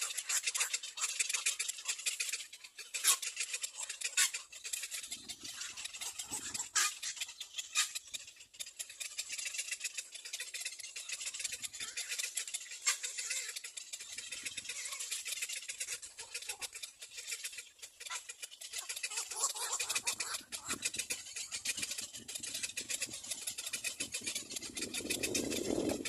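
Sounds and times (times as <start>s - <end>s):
cormorant chicks chattering: 0.0s - 26.0s.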